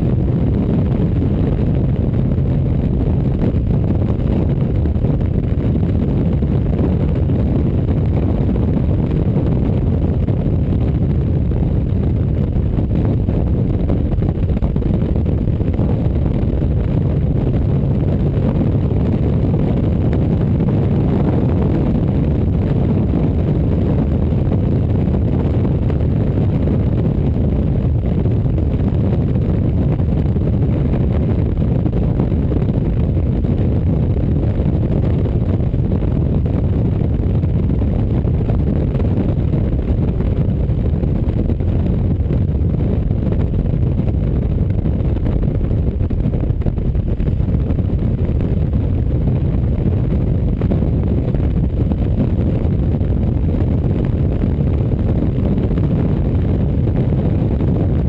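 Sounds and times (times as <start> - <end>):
motorcycle road noise: 0.0 - 58.0
wind rush: 0.0 - 58.0.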